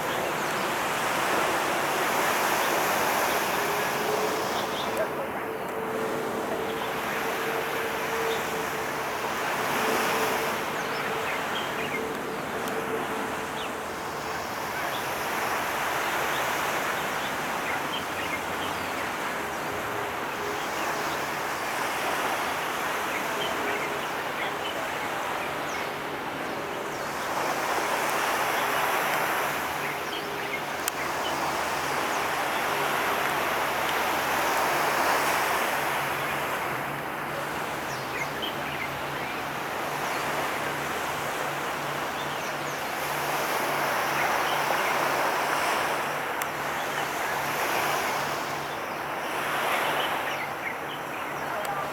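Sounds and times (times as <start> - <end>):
waves washing on shore: 0.0 - 51.9.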